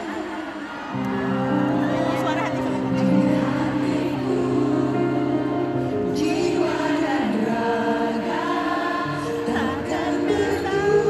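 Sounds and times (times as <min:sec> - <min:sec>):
woman singing a pop ballad: 0:01.9 - 0:11.0.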